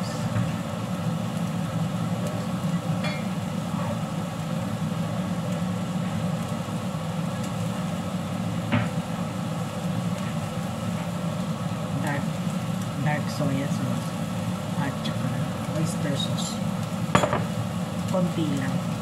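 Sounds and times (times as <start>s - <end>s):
gas stove hum and rush: 0.0s - 19.0s.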